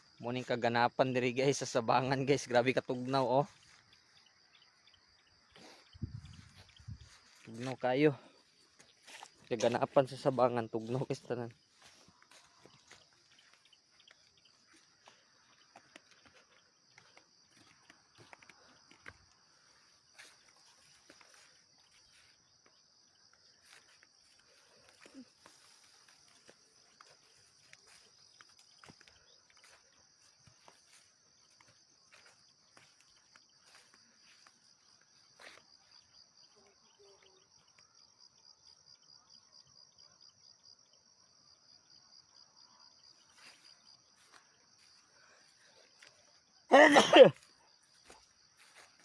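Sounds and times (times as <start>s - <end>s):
insects trilling: 0.0s - 49.0s.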